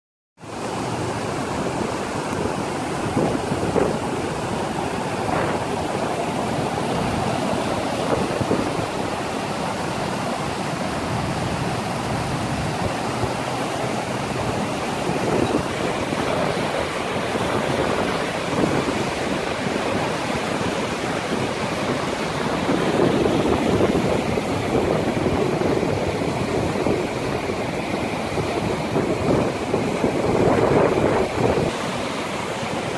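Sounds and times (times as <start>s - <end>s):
river water rushing and churning: 0.4s - 32.9s.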